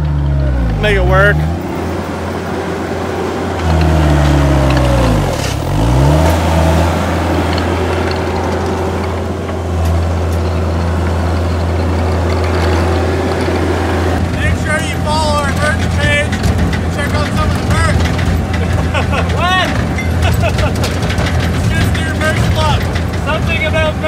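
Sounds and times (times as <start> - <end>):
loader diesel engine running hard: 0.0 - 24.0.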